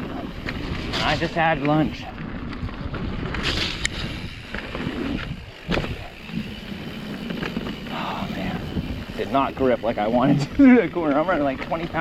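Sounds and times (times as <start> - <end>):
bike tyre and frame rattle: 0.0 - 12.0
wind buffeting microphone: 2.0 - 12.0.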